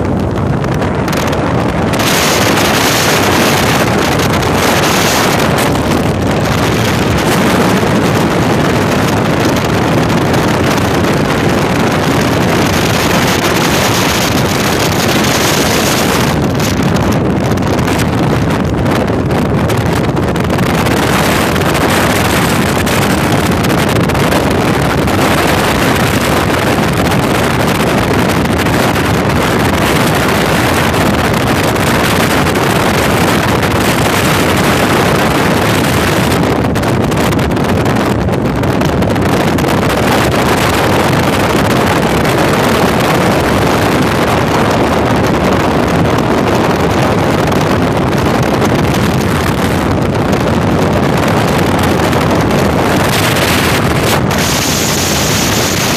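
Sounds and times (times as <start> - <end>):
motorboat running: 0.0 - 55.9
wind rushing on microphone: 0.0 - 55.9.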